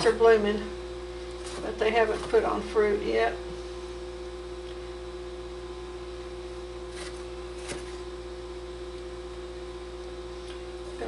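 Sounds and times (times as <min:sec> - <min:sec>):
appliance hum: 0:00.0 - 0:11.0.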